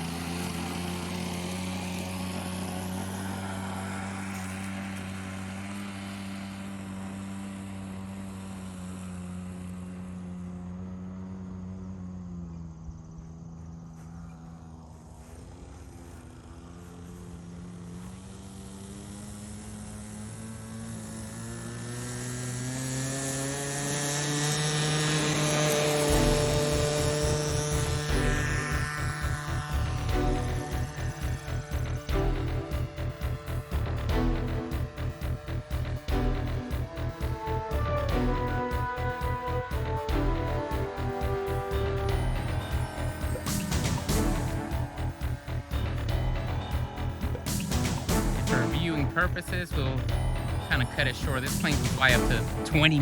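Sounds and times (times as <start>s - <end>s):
model plane engine at high throttle: 0.0s - 53.0s.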